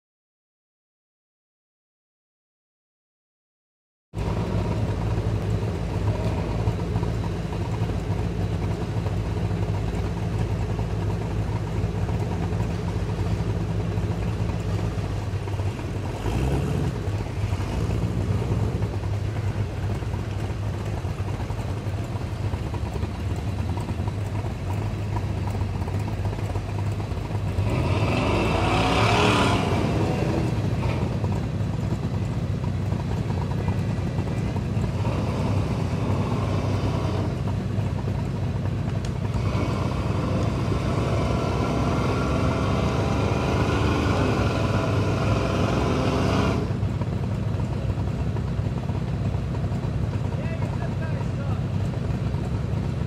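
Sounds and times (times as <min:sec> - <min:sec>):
buggy engines running at low revs: 0:04.2 - 0:53.0
engine revving: 0:04.2 - 0:53.0.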